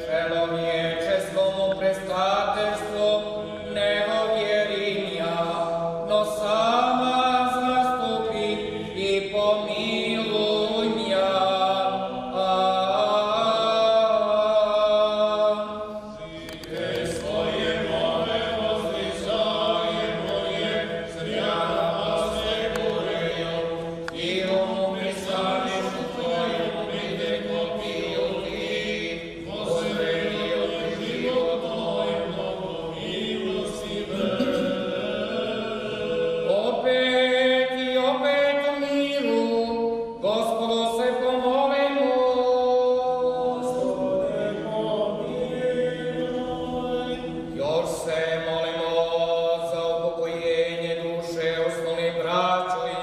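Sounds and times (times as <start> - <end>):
voices singing a slow hymn: 0.0 - 53.0.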